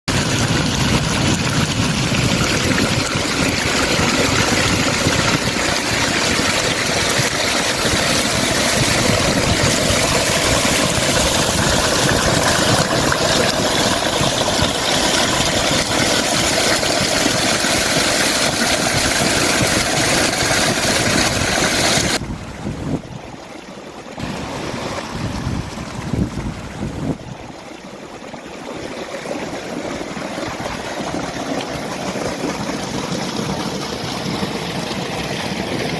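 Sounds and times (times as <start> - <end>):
water rushing: 0.1 - 35.9.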